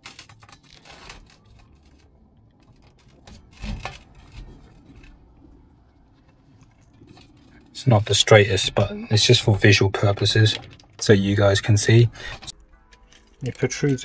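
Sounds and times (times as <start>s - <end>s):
tape crinkling on pipe: 0.0s - 7.8s, 10.0s - 14.0s.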